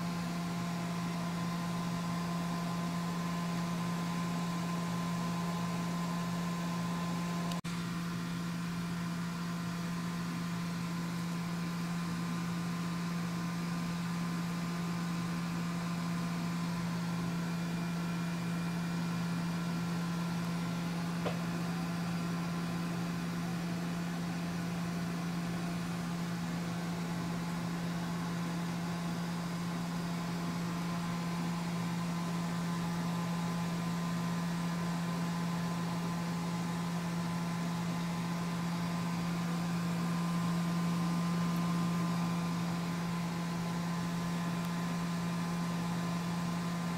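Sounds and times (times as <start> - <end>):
low machine hum: 0.0 - 46.9.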